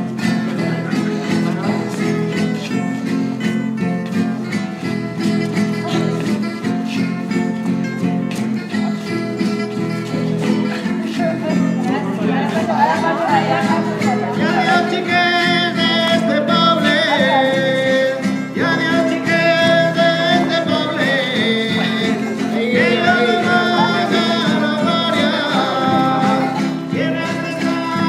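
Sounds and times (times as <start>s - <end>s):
strummed acoustic guitars: 0.0s - 28.0s.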